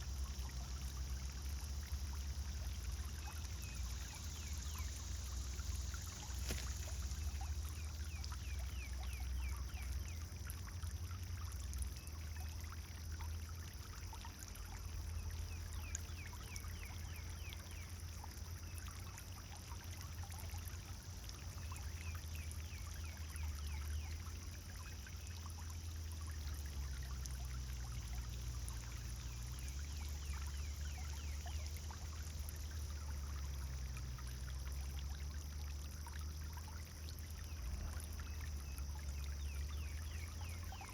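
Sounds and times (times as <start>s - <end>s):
constant low rumble: 0.0s - 40.9s
fountain water splashing: 0.0s - 40.9s.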